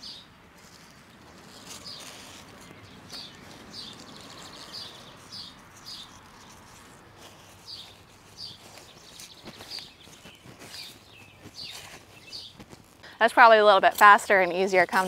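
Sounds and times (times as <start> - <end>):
gloved hands rustling in soil: 0.0 - 15.0
songbird chirping: 1.1 - 15.0.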